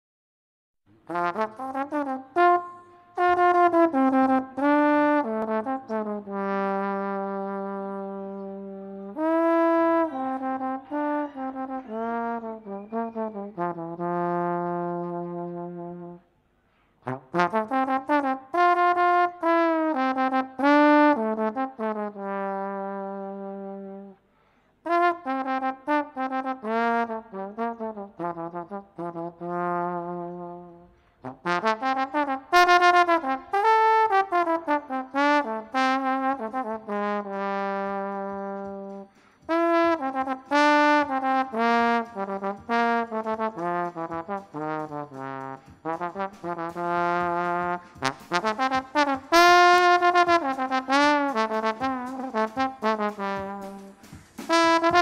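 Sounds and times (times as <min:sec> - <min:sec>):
trombone melody: 0:00.9 - 0:16.3, 0:17.0 - 0:24.2, 0:24.8 - 0:55.0.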